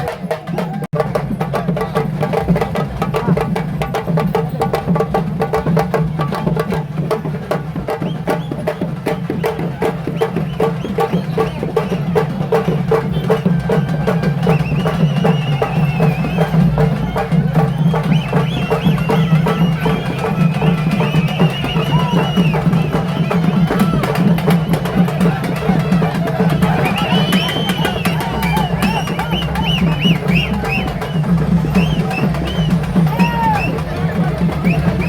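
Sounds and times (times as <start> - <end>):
fast traditional drumming: 0.0 - 35.0.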